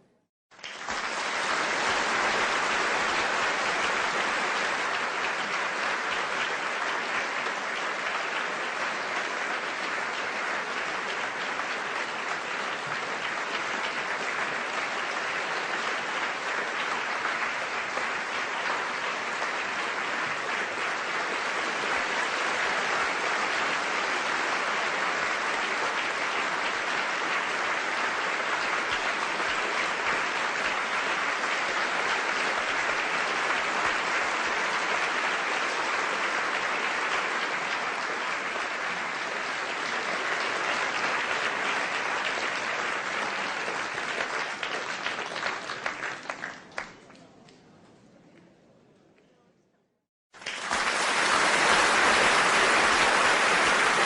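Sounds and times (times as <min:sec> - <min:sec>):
audience applauding: 0:00.0 - 0:47.6, 0:50.3 - 0:54.0.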